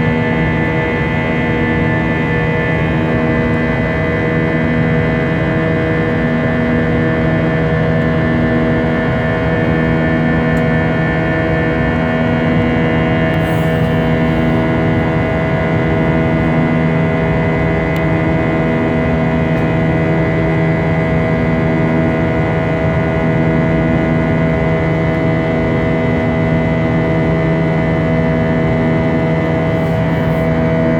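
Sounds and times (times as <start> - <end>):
jet engine buzzsaw drone: 0.0 - 30.9.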